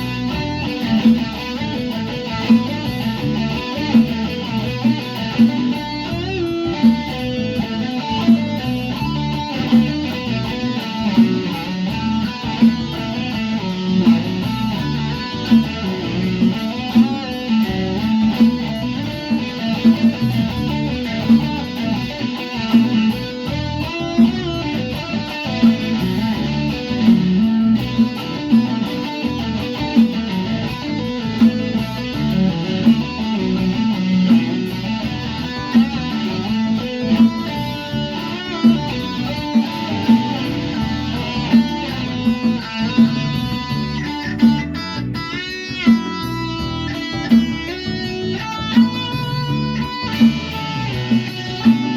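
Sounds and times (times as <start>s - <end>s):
guitar plucked and strummed: 0.0s - 51.9s.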